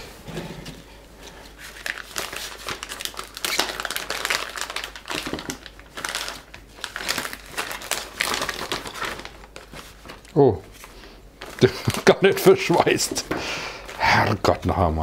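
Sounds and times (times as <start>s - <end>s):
plastic bag crinkling: 1.4s - 14.6s.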